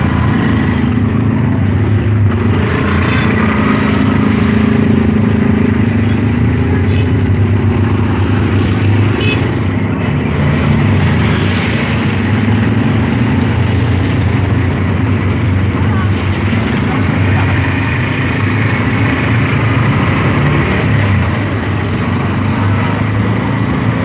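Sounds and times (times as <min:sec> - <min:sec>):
auto-rickshaw engine running: 0:00.0 - 0:24.0
road noise: 0:00.0 - 0:24.0.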